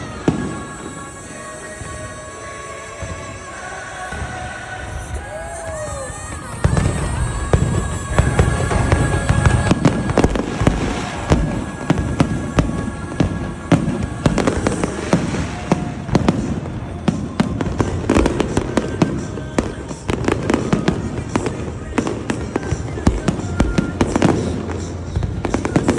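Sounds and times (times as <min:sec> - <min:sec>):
fireworks booming and crackling: 0:00.0 - 0:25.9.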